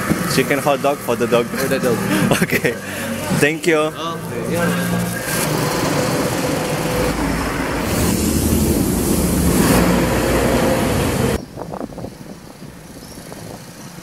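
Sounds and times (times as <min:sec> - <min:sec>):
cement mixer truck passing: 0:00.0 - 0:11.4
motorcycle passing: 0:00.0 - 0:11.4.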